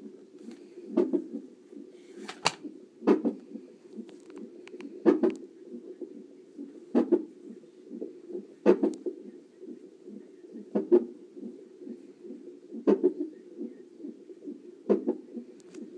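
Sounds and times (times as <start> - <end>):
fast fetal heartbeat pulsing: 0.0 - 15.9.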